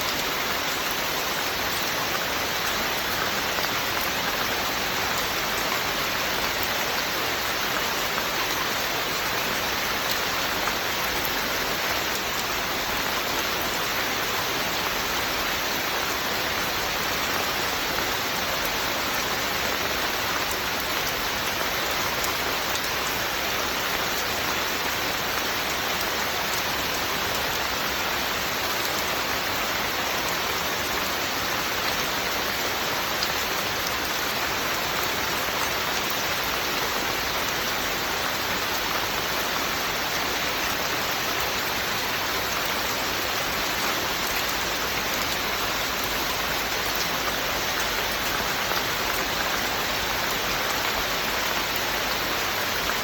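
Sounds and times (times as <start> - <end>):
rain drops ticking: 0.0 - 53.0.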